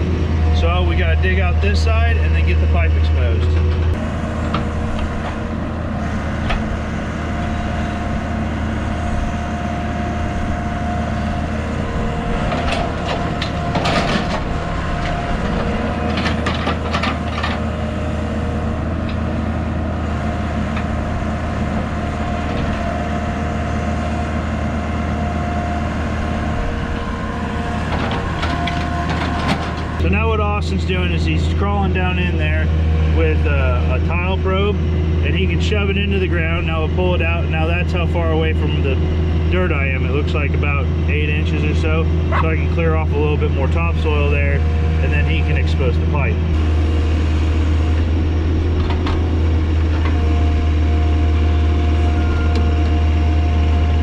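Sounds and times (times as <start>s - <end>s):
excavator engine under load: 0.0s - 54.0s.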